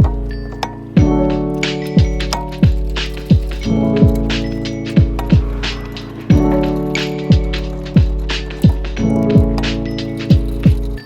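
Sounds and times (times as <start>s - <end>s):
booming kick drum beat: 0.0s - 0.4s, 1.0s - 11.0s
sustained synth chords: 0.0s - 11.0s.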